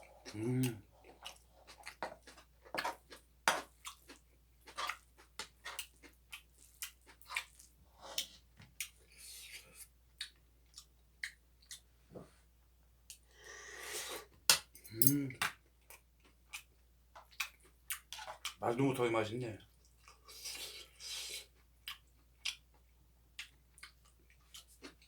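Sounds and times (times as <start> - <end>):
person chewing: 0.0 - 11.9, 14.9 - 18.6, 19.8 - 22.8, 23.4 - 25.0.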